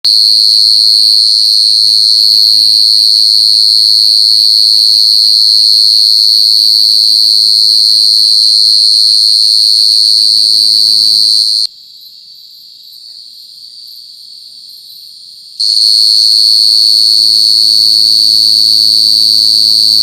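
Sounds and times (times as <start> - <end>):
cricket trilling: 0.1 - 20.0.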